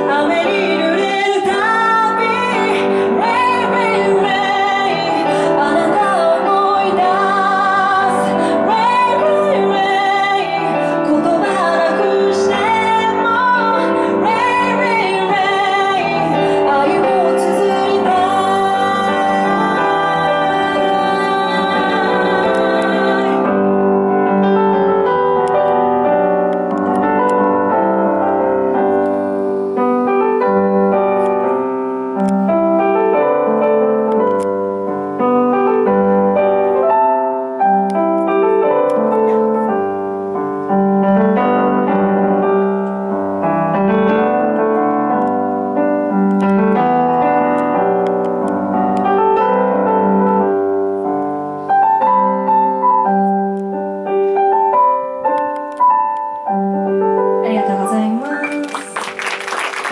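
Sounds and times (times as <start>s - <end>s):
piano ballad chords: 0.0s - 59.9s.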